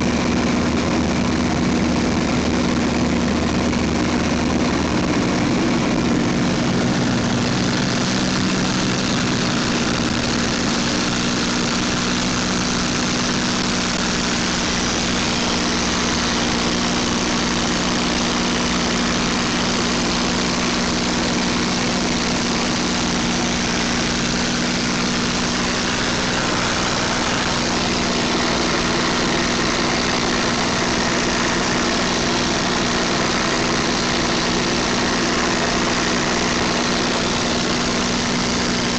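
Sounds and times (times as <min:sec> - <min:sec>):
piston aircraft engine droning: 0:00.0 - 0:38.9
rush of air: 0:01.0 - 0:38.9.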